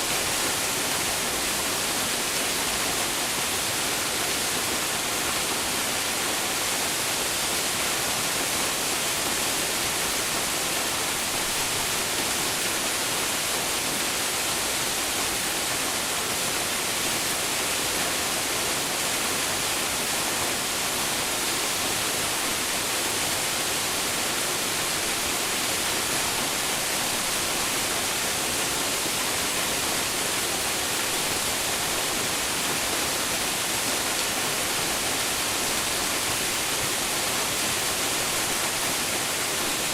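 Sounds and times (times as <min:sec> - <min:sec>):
waterfall hissing: 0:00.0 - 0:39.9.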